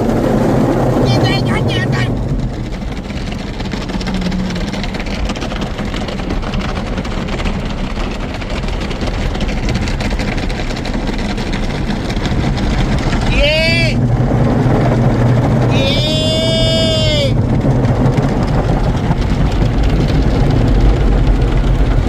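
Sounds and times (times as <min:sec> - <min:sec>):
car wash machinery and water rushing: 0:00.0 - 0:22.0.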